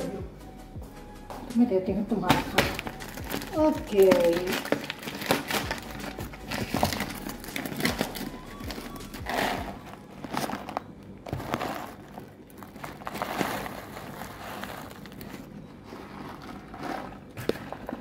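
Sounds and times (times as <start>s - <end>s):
plastic bag crinkling: 2.3s - 18.0s.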